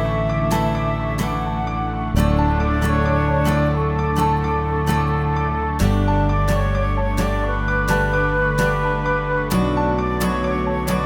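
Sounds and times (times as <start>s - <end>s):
gentle new-age instrumental music: 0.0s - 11.0s.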